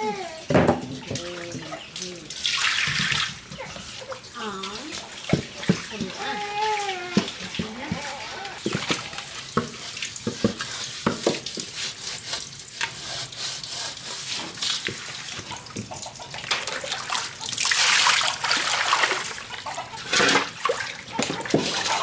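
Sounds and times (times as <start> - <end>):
water splashing and pouring: 0.0 - 22.0.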